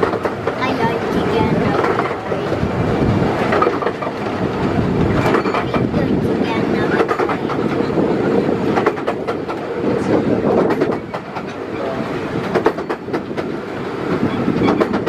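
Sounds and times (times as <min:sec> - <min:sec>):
railway carriage rumbling: 0:00.0 - 0:15.0
wheels clicking over rail joints: 0:00.0 - 0:15.0.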